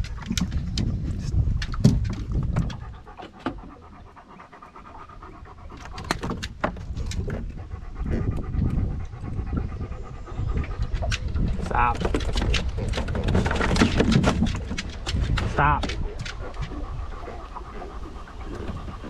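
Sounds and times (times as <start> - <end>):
dog panting: 2.2 - 19.0.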